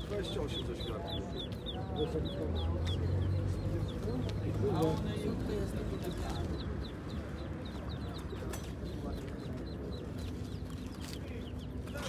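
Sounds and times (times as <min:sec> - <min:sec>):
chickens clucking: 0:00.0 - 0:12.0
murmur of market crowd: 0:00.0 - 0:12.0
small birds chirping: 0:00.0 - 0:12.0.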